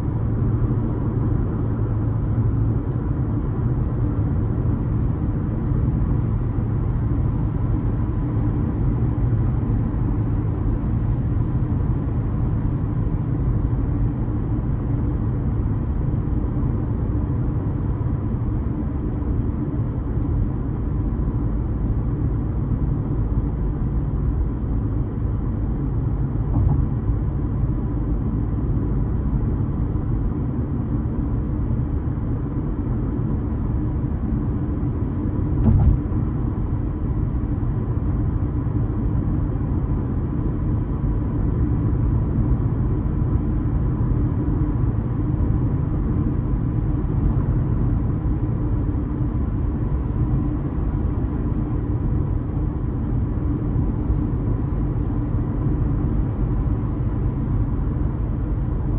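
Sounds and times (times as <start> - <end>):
car engine running: 0.0 - 58.9
road and tyre noise: 0.0 - 58.9.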